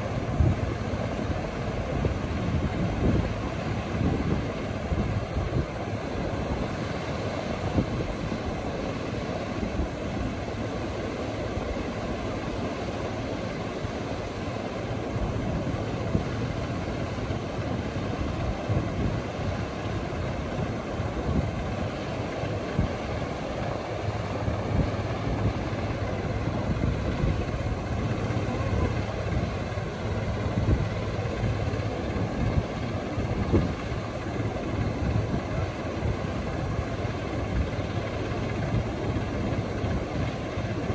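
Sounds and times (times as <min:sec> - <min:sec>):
tractor diesel engine idling: 0:00.0 - 0:40.9
waves breaking: 0:00.0 - 0:40.9.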